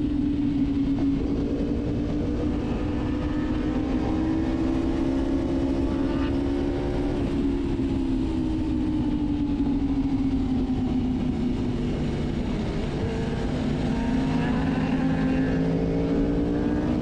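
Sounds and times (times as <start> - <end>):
motorcycle engine cruising: 0.0 - 17.0
wind rush on microphone: 0.0 - 17.0.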